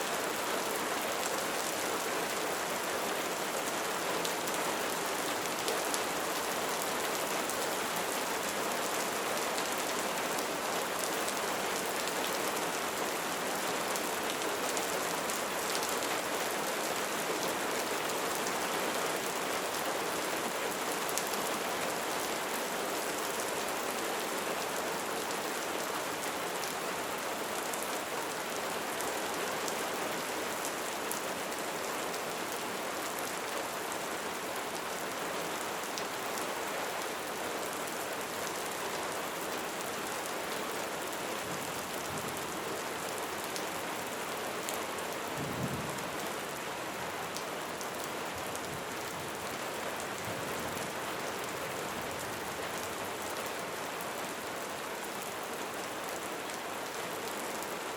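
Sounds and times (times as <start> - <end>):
light rain falling: 0.0 - 57.9.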